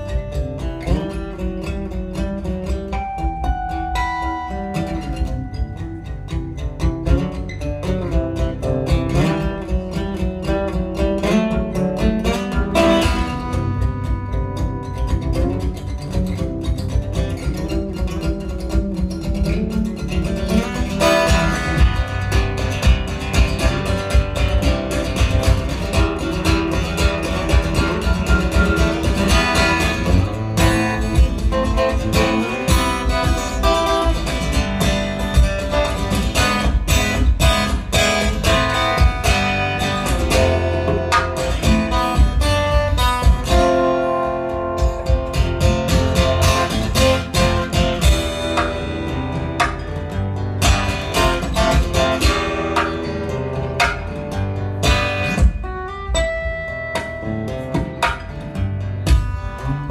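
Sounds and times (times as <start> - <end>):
acoustic guitar plucking: 0.0 - 59.9.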